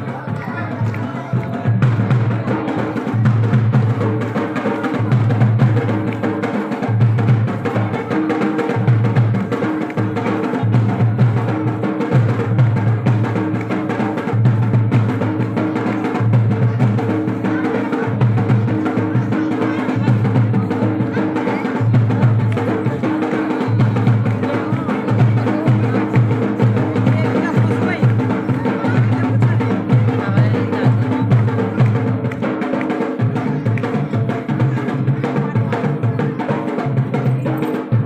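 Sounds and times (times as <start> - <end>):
deep drum beats: 0.0 - 38.0.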